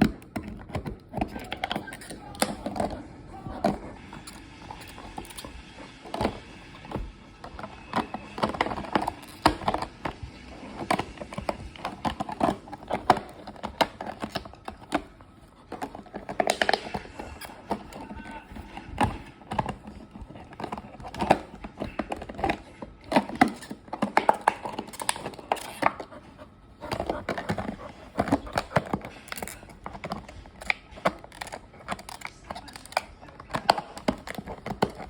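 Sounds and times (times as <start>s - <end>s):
puppy chewing plastic bottle: 0.0s - 35.0s.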